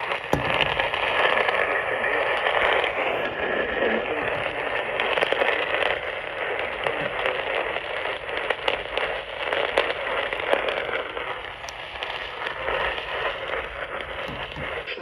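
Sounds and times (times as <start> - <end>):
radio crackles and clicks: 0.0 - 15.0
radio static hiss: 0.0 - 15.0.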